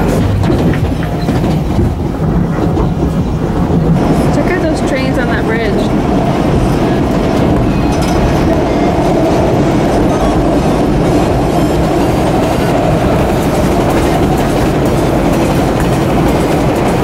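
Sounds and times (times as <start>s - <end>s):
train car rumbling on rails: 0.0s - 17.0s.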